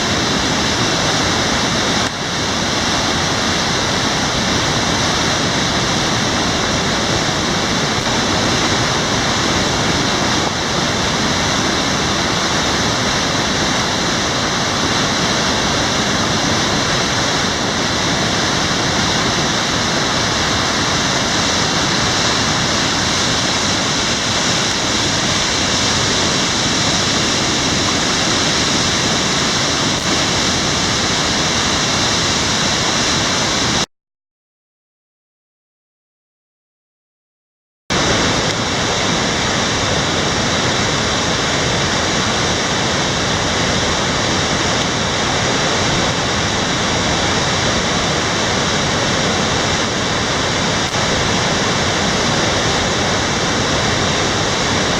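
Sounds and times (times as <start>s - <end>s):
water rushing: 0.0s - 33.9s, 37.9s - 54.9s.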